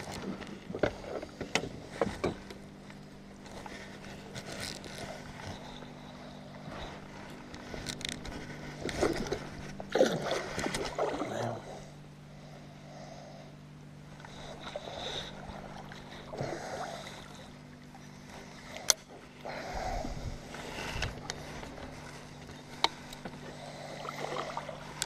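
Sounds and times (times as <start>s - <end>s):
water splashing against boat: 0.0s - 12.0s, 14.0s - 25.0s
steady low hum: 0.0s - 25.0s.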